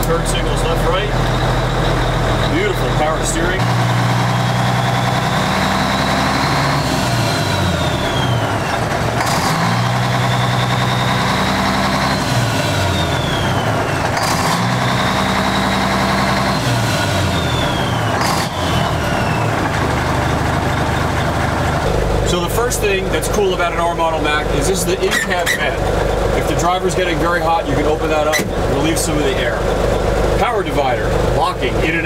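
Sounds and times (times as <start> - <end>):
diesel truck engine revving: 0.0 - 32.0.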